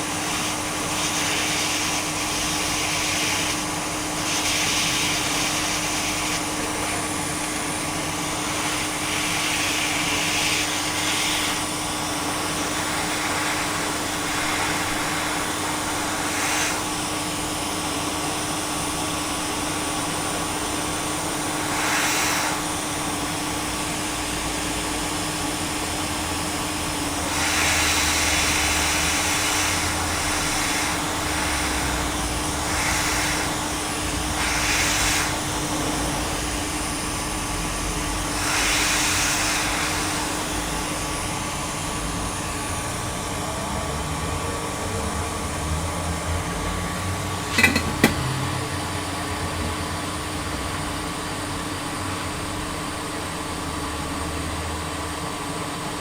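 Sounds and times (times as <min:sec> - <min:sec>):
electric air blower whirring: 0:00.0 - 0:56.0.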